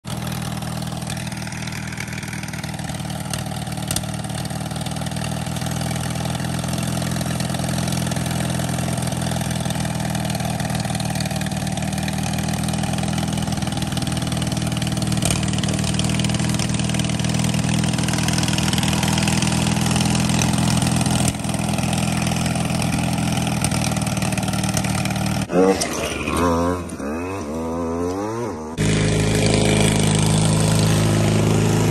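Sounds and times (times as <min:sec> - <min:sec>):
riding lawn mower engine running: 0:00.0 - 0:31.9.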